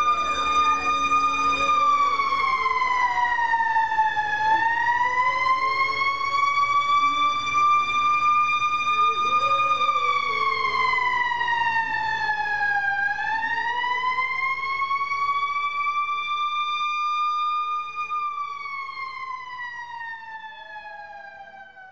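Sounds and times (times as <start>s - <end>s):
fire truck siren wailing: 0.0s - 21.9s.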